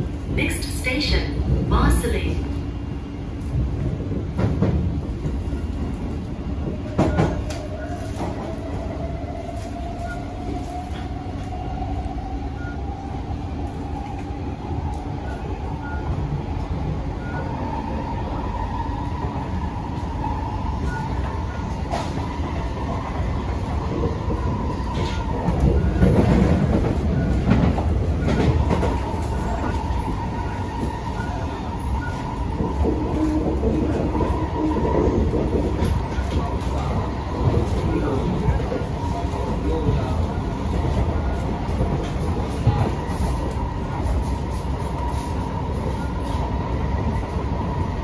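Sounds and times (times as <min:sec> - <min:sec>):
wheels rumbling on rail: 0:00.0 - 0:48.0.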